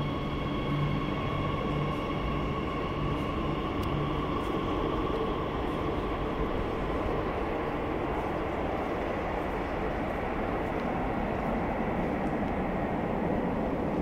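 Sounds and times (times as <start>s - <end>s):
low rumble of station: 0.0s - 14.0s
thin whine: 0.0s - 14.0s.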